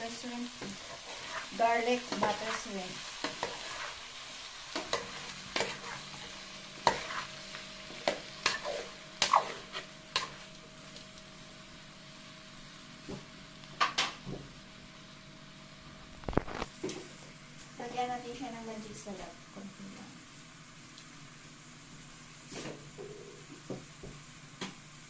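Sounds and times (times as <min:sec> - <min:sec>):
faint sizzle: 0:00.0 - 0:25.0.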